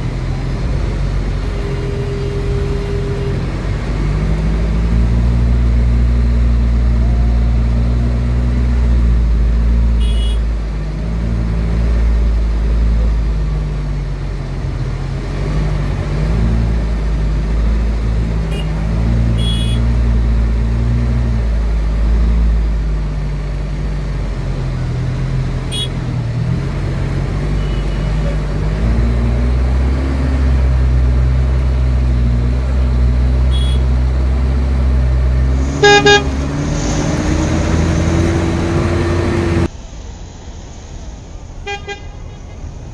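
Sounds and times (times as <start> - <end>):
vehicle engine in traffic: 0.0 - 42.9.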